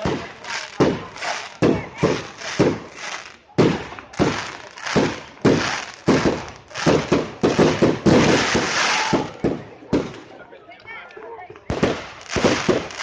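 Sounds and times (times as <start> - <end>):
fireworks banging: 0.0 - 10.4, 11.7 - 13.0.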